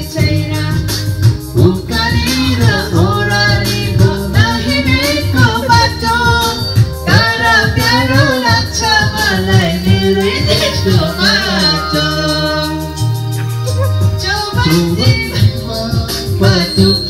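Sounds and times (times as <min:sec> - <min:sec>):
karaoke singing into microphones: 0:00.0 - 0:17.0
music backing track: 0:00.0 - 0:17.0.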